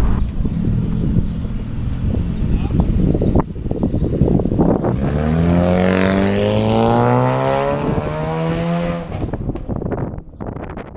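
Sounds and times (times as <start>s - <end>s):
car engine accelerating: 0.0s - 9.9s.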